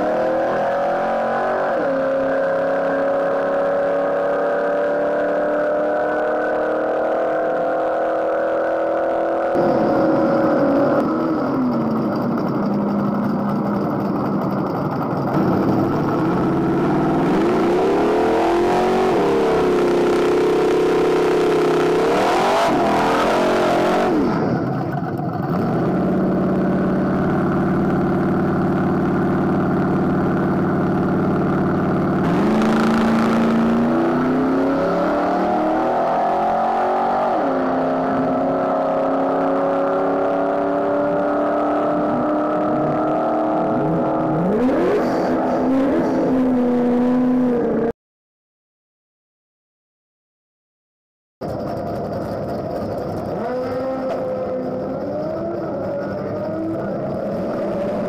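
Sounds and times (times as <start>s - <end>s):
drag car engine revving: 0.0s - 47.9s, 51.4s - 58.0s.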